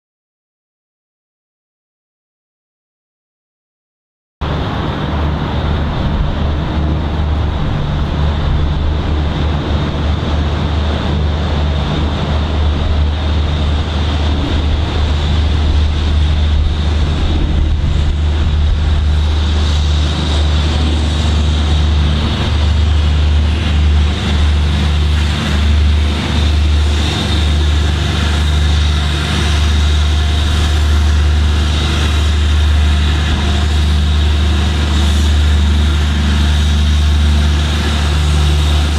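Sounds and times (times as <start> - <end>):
heavy low rumble: 4.4 - 38.9
steam locomotive approaching: 4.4 - 38.9.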